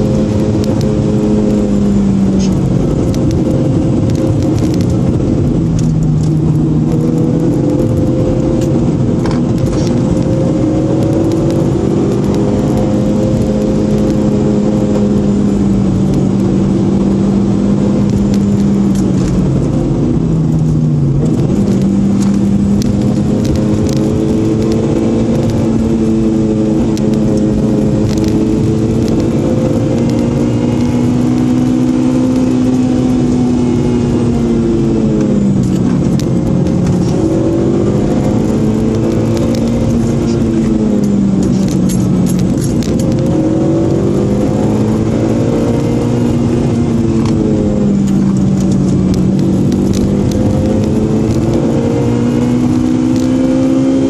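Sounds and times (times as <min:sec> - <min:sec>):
car engine accelerating: 0:00.0 - 0:54.0
tyre and road noise: 0:00.0 - 0:54.0.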